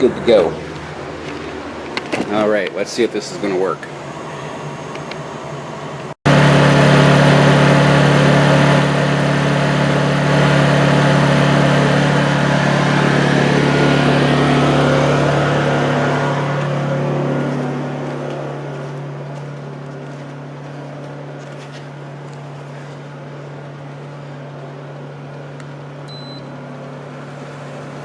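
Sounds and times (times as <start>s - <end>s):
generator engine running: 0.0s - 28.0s.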